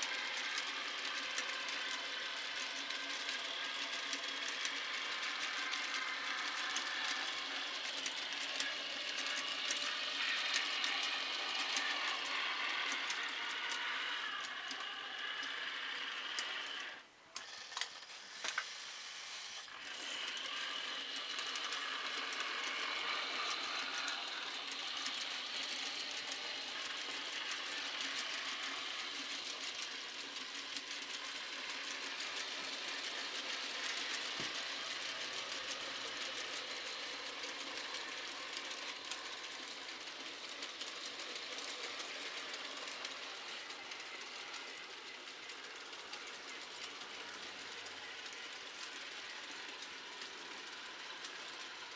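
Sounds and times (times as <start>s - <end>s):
model train whirring on rails: 0.0s - 51.9s.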